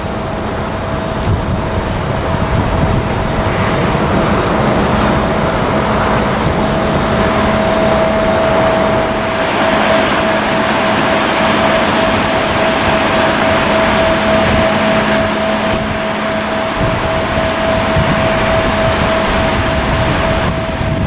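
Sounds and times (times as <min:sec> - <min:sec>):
jet engines roaring with whine: 0:00.0 - 0:21.0.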